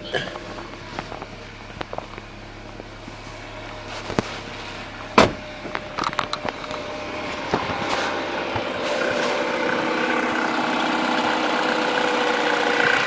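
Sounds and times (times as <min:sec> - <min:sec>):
car engine starting with whir: 0:00.0 - 0:13.0.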